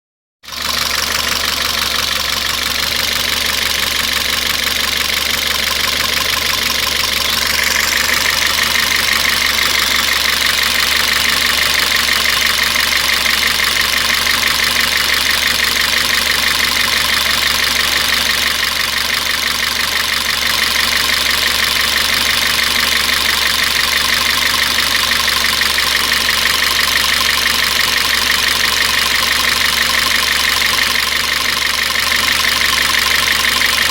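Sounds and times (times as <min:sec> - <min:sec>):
car engine idling: 0:00.5 - 0:33.9.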